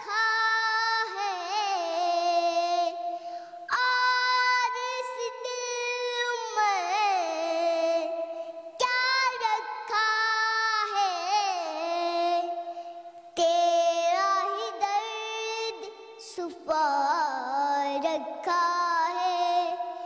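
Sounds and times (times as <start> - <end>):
boy singing: 0.0 - 20.0.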